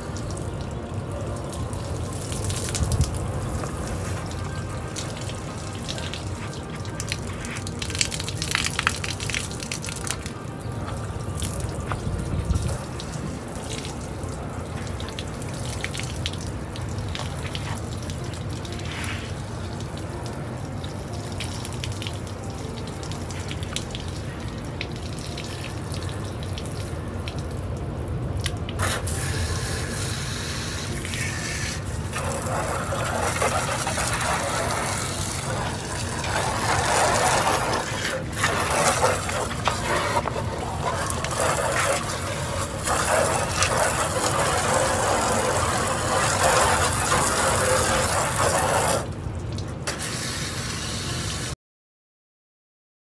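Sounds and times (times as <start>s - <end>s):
background music: 0.0s - 49.1s
water dripping: 0.0s - 50.0s
hose water spraying and splashing: 0.0s - 51.6s.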